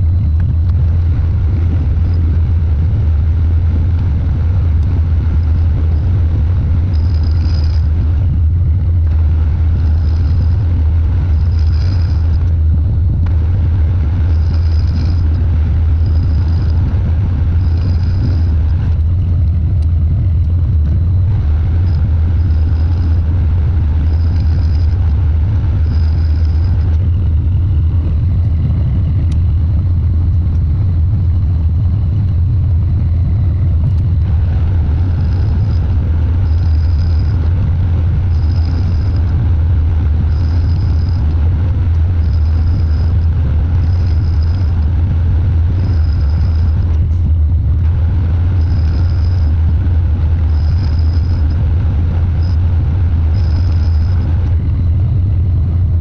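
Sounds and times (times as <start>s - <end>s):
lathe machine hum: 0.0s - 56.0s.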